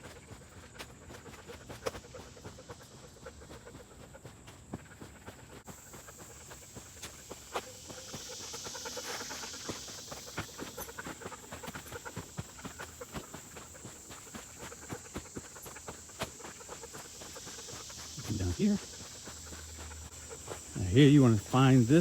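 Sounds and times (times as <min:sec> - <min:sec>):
footsteps on a trail: 0:00.0 - 0:22.0.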